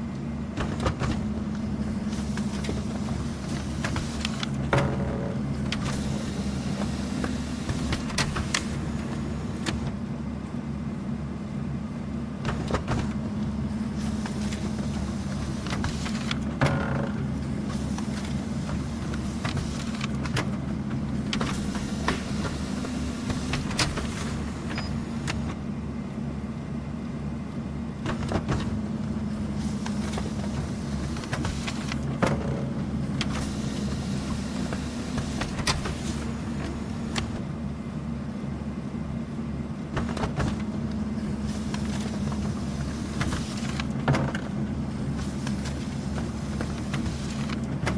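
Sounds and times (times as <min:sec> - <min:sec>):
printer motor hum: 0:00.3 - 0:10.9, 0:12.4 - 0:47.9
paper feeding clicks and knocks: 0:00.6 - 0:06.1, 0:06.8 - 0:10.0, 0:12.4 - 0:13.2, 0:13.9 - 0:25.6, 0:28.0 - 0:37.4, 0:39.9 - 0:47.9.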